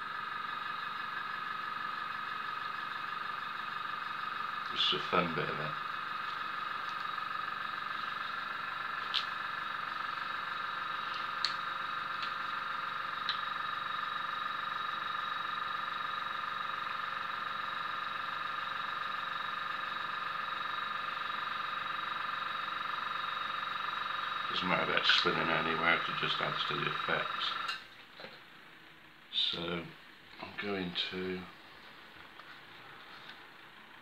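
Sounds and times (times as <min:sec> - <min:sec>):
high-pitched electrical whine: 0:00.0 - 0:28.6, 0:29.2 - 0:34.0.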